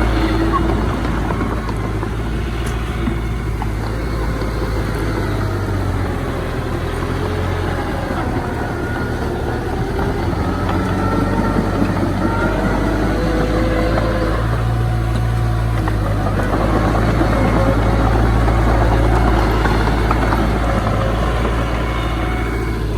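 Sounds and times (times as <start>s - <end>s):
diesel engine running: 0.0s - 22.9s
faint wavering whine: 0.0s - 22.9s.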